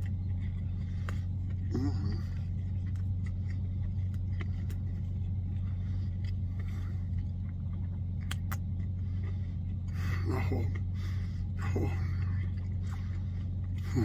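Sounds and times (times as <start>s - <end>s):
car cabin hum: 0.0s - 14.0s
person chewing crispy food: 0.0s - 14.0s.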